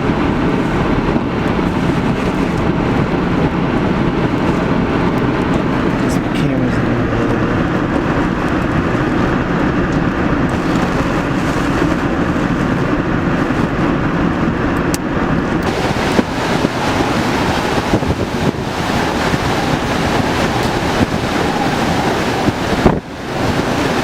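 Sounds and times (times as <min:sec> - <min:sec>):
strong wind and rain: 0:00.0 - 0:24.0
wind buffeting microphone: 0:00.0 - 0:24.0.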